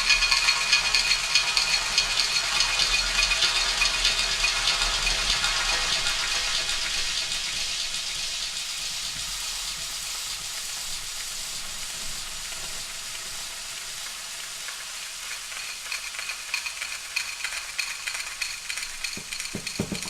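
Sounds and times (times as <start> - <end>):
food sizzling in frying pan: 0.0 - 20.0.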